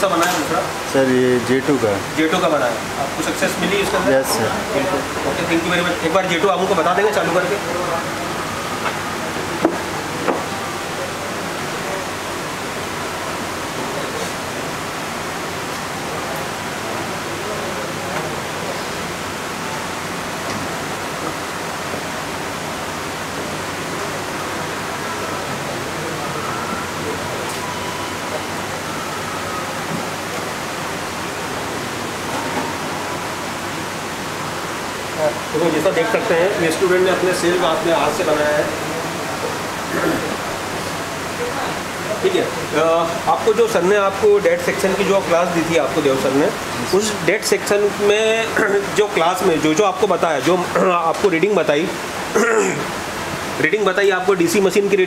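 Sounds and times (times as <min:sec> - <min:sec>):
room noise hiss: 0:00.0 - 0:55.0.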